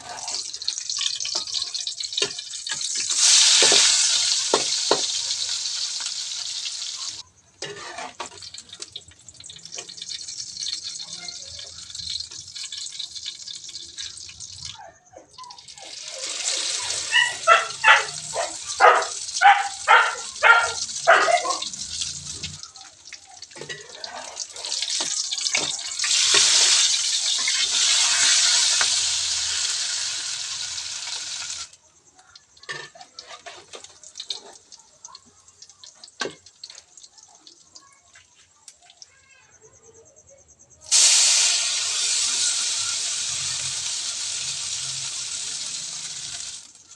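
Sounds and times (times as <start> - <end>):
batter sizzling in hot oil: 0.0 - 39.3, 40.8 - 46.9.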